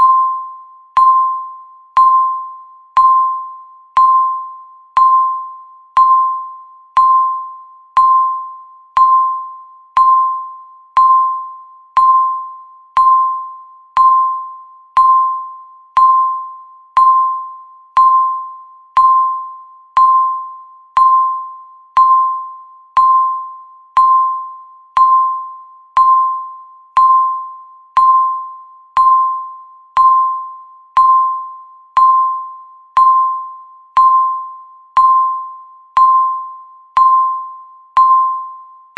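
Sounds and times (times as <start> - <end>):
countdown timer beeping: 1.0 - 38.6.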